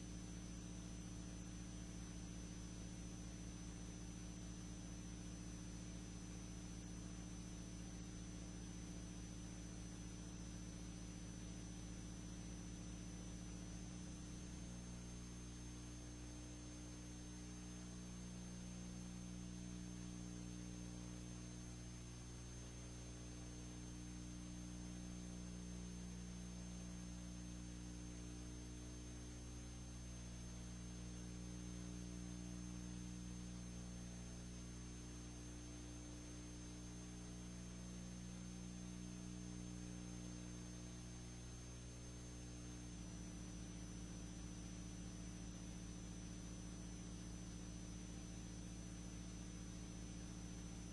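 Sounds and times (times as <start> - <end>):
electrical mains hum: 0.0 - 50.9.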